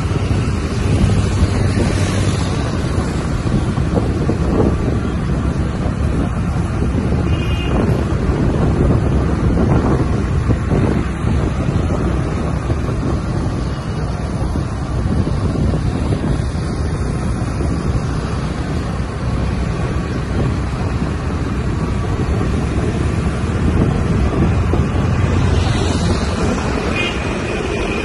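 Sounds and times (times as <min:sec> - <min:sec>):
vehicle road noise: 0:00.0 - 0:28.0
wind rumble on microphone: 0:00.0 - 0:28.0.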